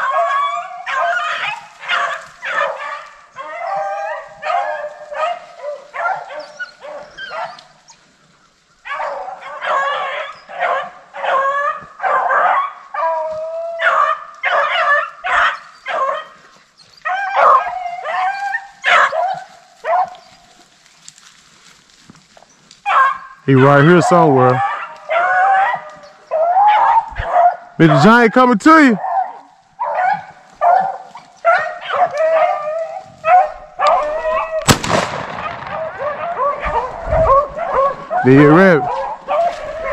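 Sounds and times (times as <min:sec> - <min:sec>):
dogs baying and barking: 0:00.0 - 0:21.1, 0:22.4 - 0:39.9.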